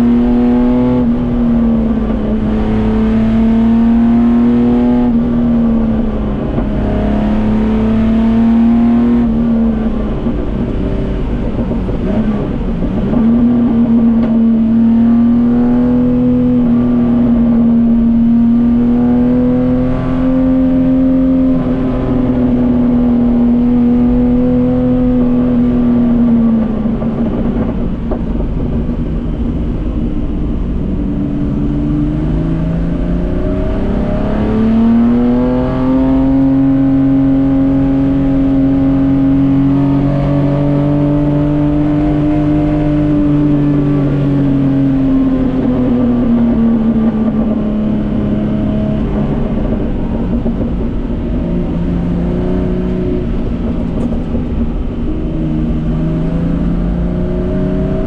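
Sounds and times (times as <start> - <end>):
race car engine revving high: 0.0 - 27.7, 31.4 - 58.0.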